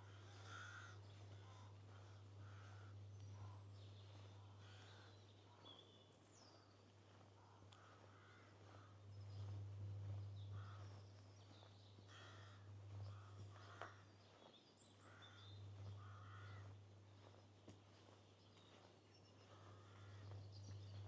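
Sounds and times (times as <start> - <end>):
steady low hum: 0.0 - 5.6, 7.4 - 18.0, 19.4 - 21.0.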